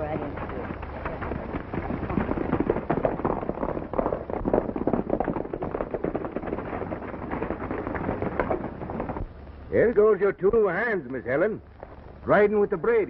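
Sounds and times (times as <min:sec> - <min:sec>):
horses galloping on dirt: 0:00.0 - 0:13.0.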